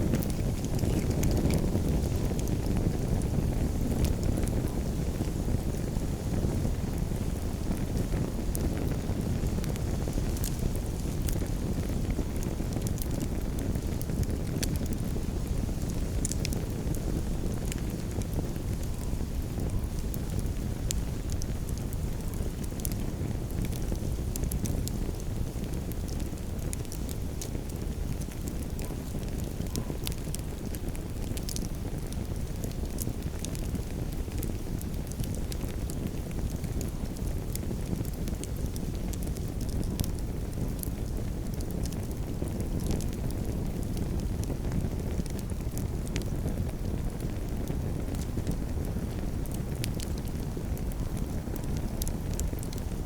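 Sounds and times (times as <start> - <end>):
campfire crackling and popping: 0.0 - 53.0
low rumble of fire: 0.0 - 53.0.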